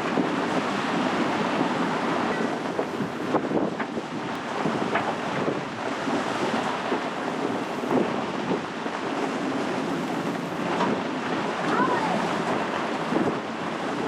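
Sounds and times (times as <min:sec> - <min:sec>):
choppy water and waves: 0:00.0 - 0:14.0
wind buffeting microphone: 0:00.0 - 0:14.0.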